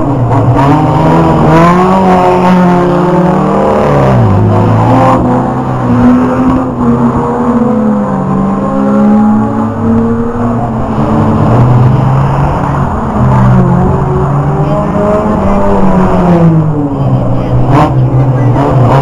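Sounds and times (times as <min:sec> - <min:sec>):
racing car engines revving: 0:00.0 - 0:19.0.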